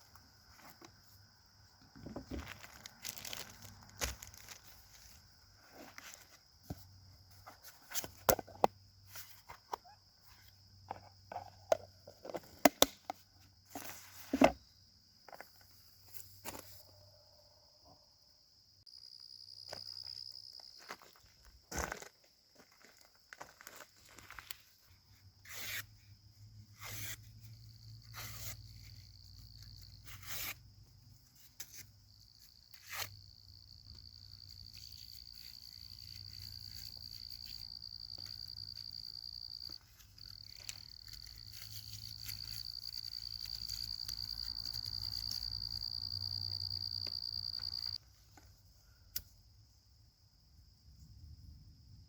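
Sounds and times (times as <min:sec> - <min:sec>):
insect droning: 0:00.0 - 0:52.0.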